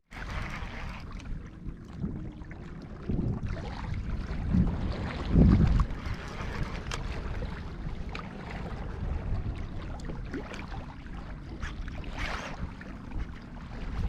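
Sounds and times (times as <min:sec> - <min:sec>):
water lapping against a hull: 0:00.0 - 0:14.0
wind rumbling on microphone: 0:00.1 - 0:14.0.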